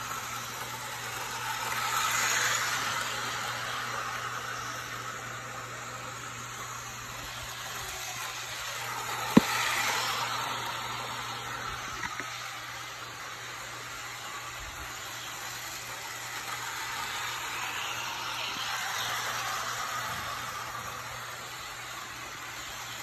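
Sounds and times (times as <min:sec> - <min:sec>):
model train whirring: 0:00.0 - 0:23.0.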